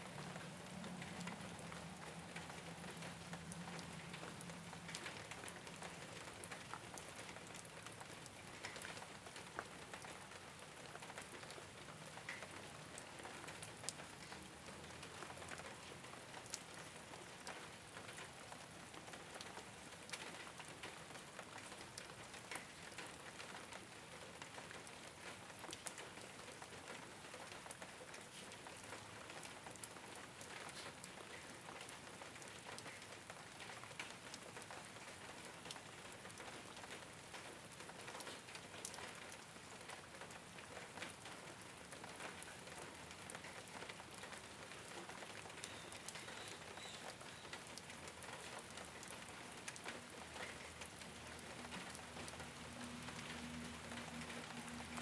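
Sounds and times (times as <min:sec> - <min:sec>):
rain on a rooftop: 0:00.0 - 0:55.0.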